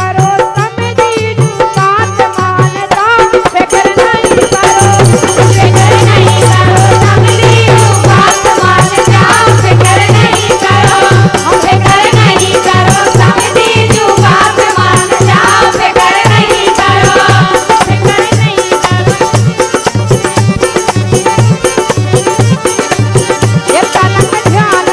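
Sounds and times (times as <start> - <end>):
women singing folk song: 0.0 - 19.7, 23.7 - 24.9
fast percussion: 0.0 - 24.9.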